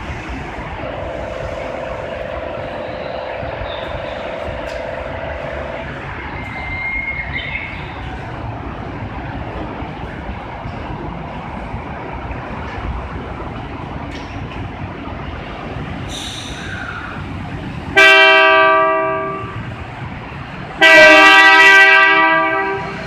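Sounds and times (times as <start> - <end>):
station noise: 0.0 - 23.0.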